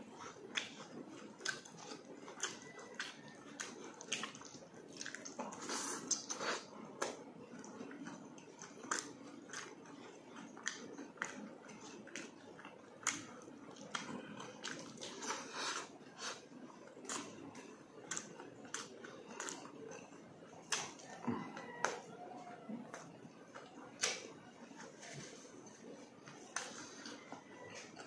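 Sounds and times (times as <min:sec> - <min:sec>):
mouth chewing and smacking: 0:00.0 - 0:28.0.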